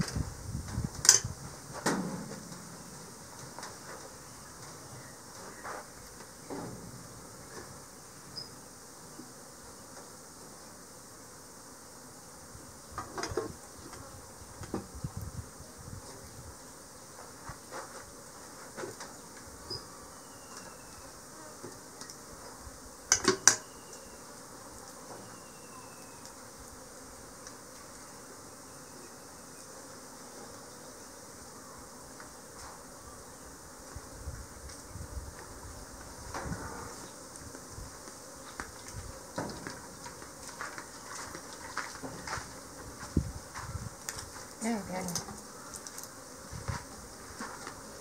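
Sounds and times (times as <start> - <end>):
bees buzzing: 2.7 - 48.0.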